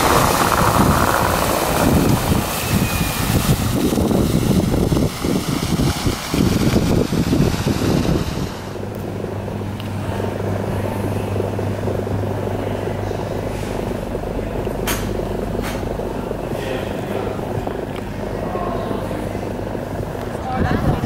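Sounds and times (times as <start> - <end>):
low hum: 0.0 - 21.0
wind buffeting microphone: 0.0 - 21.0.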